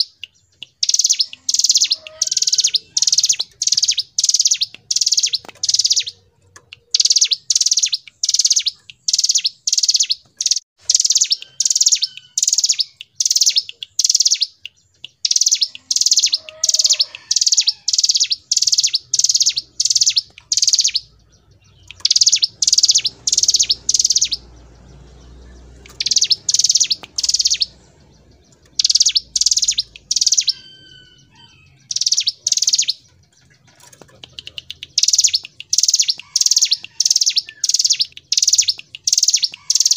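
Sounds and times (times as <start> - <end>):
bird singing high chipping notes: 0.0 - 39.9.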